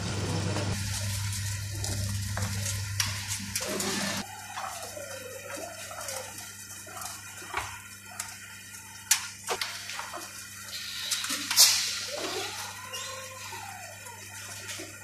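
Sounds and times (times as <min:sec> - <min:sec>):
roller conveyor humming and rattling: 0:00.0 - 0:15.0.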